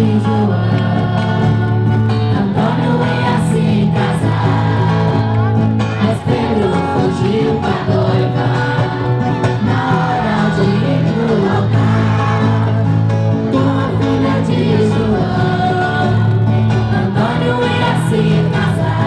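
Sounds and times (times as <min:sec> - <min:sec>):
group of voices singing: 0:00.0 - 0:19.0
guitar accompaniment: 0:00.0 - 0:19.0.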